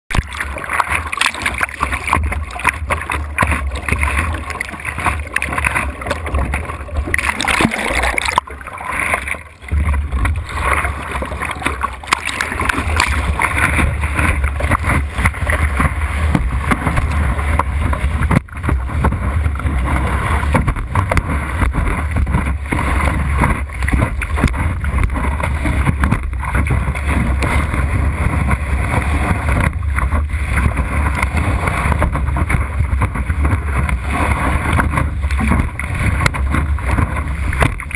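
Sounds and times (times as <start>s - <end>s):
water slapping against board: 0.1s - 37.9s
wind rumble on microphone: 0.1s - 37.9s.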